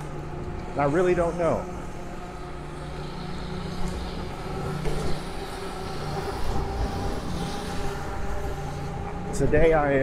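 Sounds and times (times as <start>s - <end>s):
electric motor humming: 0.0s - 10.0s
wind: 0.0s - 10.0s.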